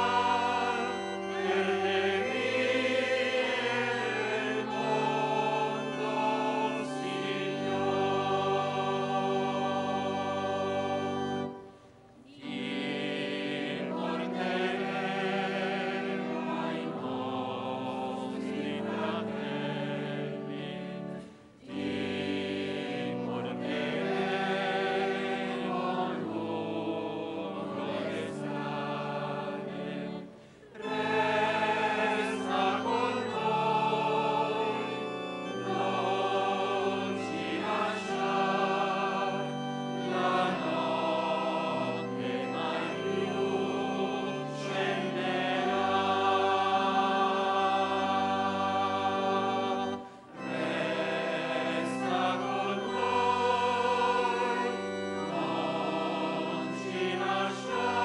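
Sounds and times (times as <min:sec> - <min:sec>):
choir singing sacred music: 0:00.0 - 0:58.0.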